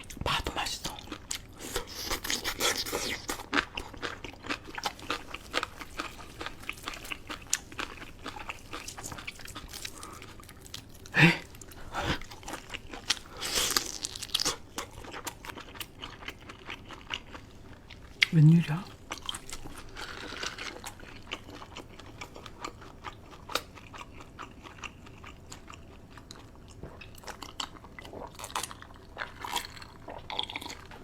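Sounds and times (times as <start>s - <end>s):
chewing and crunching food: 0.0s - 31.0s.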